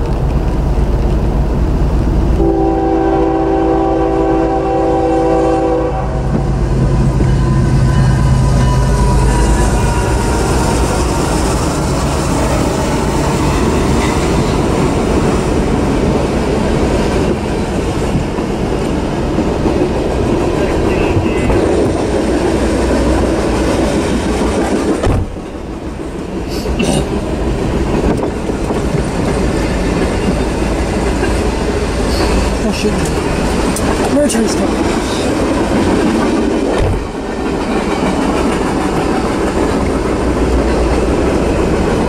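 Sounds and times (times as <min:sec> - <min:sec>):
diesel locomotive engines droning: 0:00.0 - 0:42.0
freight car wheels rumbling on rail: 0:00.0 - 0:42.0.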